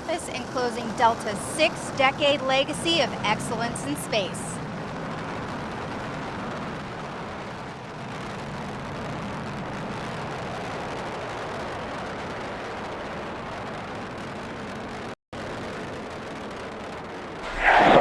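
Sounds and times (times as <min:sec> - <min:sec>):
rocket engines roaring: 0:00.0 - 0:18.0.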